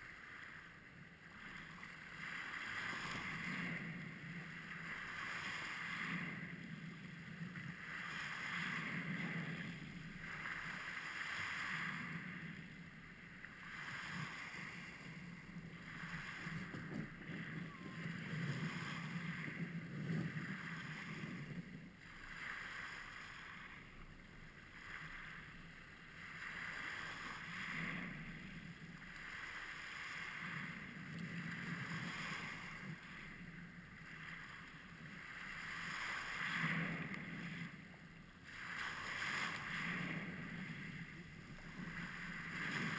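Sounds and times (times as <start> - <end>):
waves washing over pebbles: 0.0 - 42.9.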